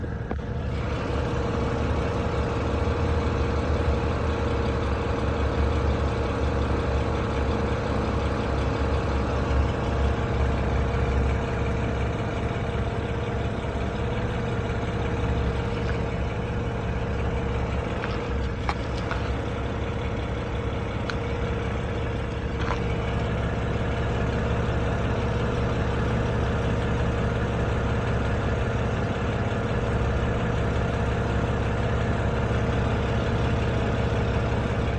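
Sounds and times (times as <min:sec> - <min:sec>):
car engine idling: 0:00.0 - 0:34.9
engine knock: 0:00.0 - 0:34.9.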